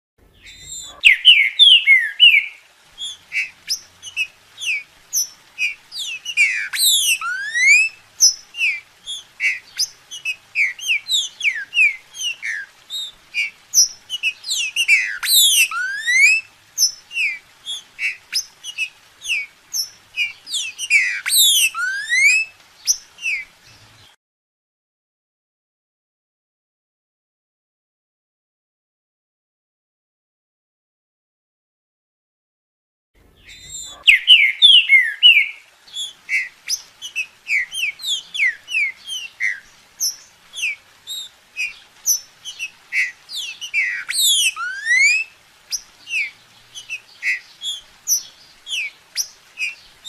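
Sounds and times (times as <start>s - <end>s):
bird singing whistled notes: 0.3s - 24.1s, 33.4s - 50.0s.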